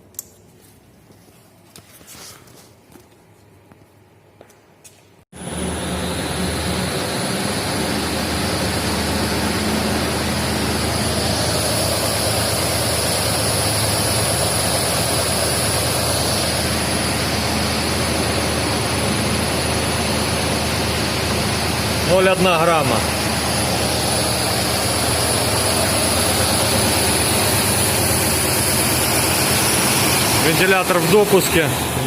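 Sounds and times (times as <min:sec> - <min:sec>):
cooling fan spinning: 0:05.4 - 0:32.0.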